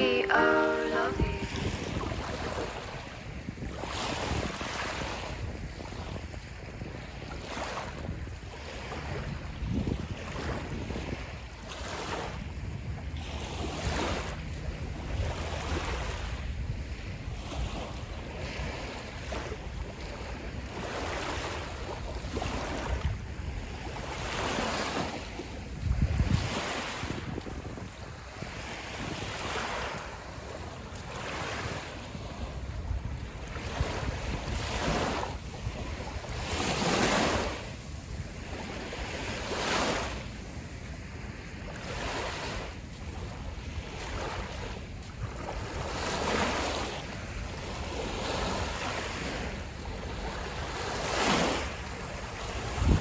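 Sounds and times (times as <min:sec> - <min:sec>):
sea waves washing onto beach: 0:00.0 - 0:53.0
wind rumbling on microphone: 0:01.4 - 0:53.0.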